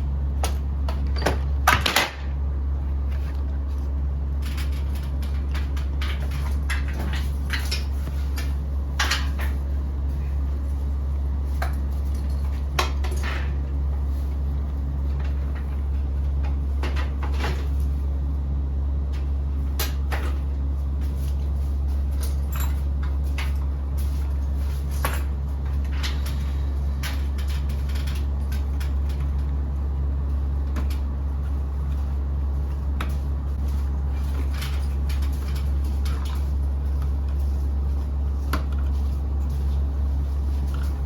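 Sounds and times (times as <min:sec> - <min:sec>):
low machine hum: 0:00.0 - 0:41.0.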